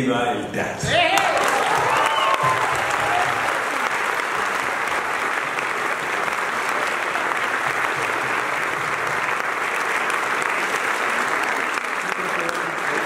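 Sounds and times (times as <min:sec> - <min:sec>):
audience applause: 0:00.9 - 0:13.0.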